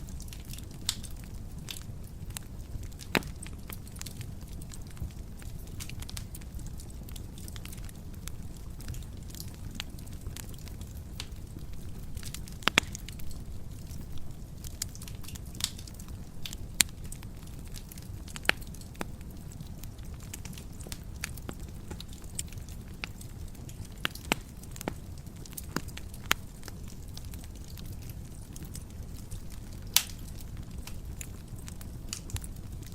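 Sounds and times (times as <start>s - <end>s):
flames rumbling: 0.0s - 32.9s
logs crackling and popping: 0.0s - 32.9s.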